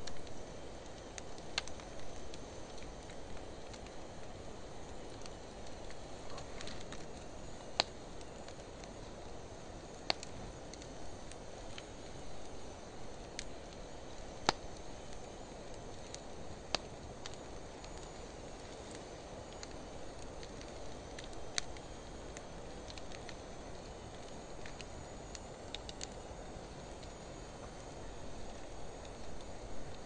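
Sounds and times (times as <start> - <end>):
campfire flames rushing: 0.0 - 30.0
fire crackling and popping: 0.0 - 30.0.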